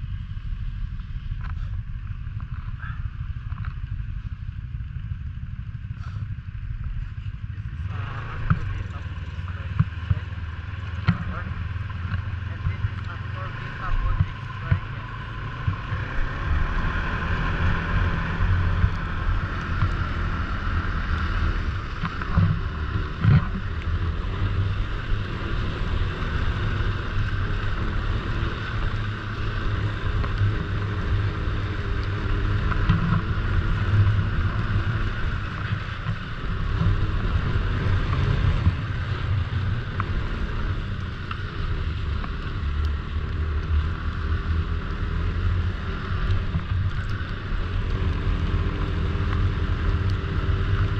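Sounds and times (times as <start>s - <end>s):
snowmobile engine and track: 0.0s - 50.9s.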